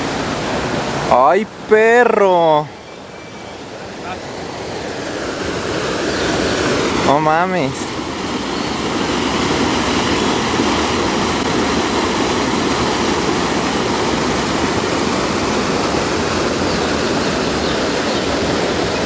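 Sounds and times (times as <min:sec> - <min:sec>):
water rushing over waterfall: 0:00.0 - 0:19.0.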